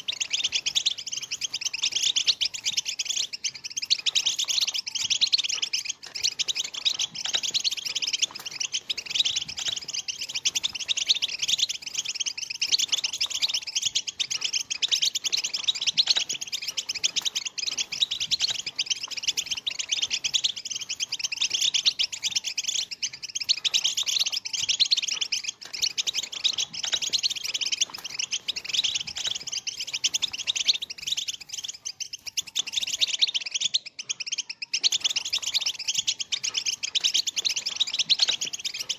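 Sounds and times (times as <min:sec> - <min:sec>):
finches twittering and chirping: 0:00.0 - 0:38.9.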